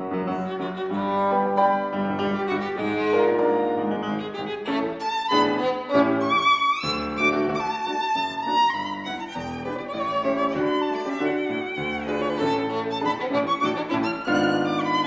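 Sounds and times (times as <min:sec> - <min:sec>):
piano chords: 0:00.0 - 0:15.0
violin melody: 0:00.0 - 0:15.0.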